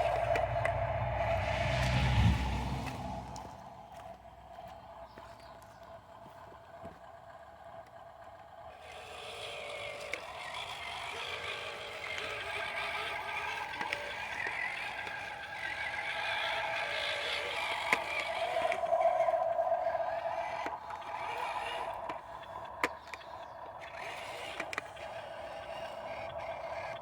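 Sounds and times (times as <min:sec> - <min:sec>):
toy truck electric motors whining: 0:00.0 - 0:27.0.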